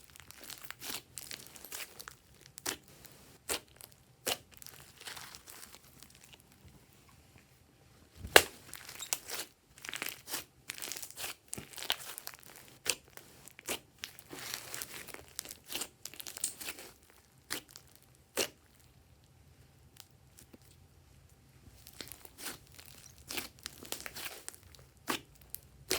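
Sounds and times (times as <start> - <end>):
slime squeezed with sticky crackles: 0.0 - 6.6, 8.2 - 18.9, 21.8 - 25.9.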